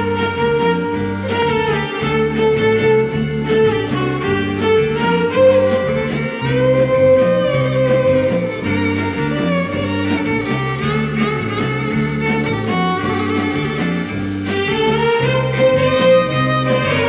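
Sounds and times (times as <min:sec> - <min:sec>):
bass line: 0:00.0 - 0:17.0
light percussion beat: 0:00.0 - 0:17.0
violin section playing melody: 0:00.0 - 0:17.0.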